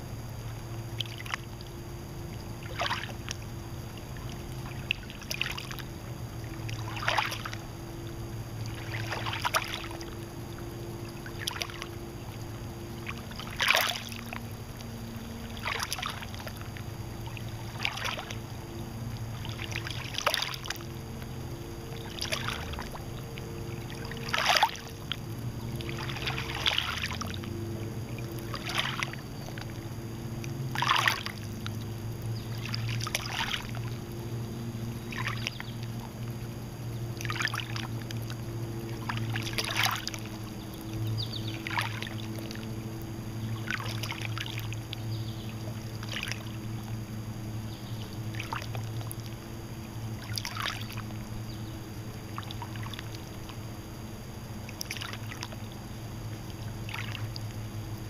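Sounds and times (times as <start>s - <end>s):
small waves lapping at shore: 0.0s - 58.0s
steady low hum: 0.0s - 58.0s.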